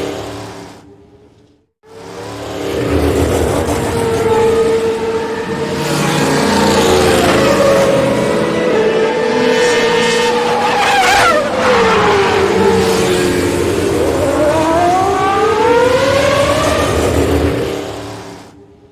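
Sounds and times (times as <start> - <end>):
car engine accelerating: 0.0 - 18.6
race cars passing at speed: 0.0 - 18.9.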